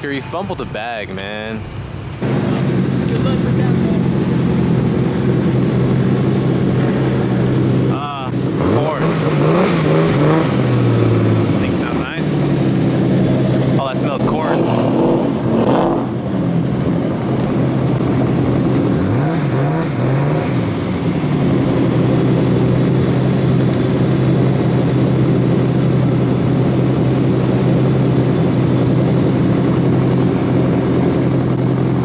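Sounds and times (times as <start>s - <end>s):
car engine running and revving: 0.0s - 32.0s.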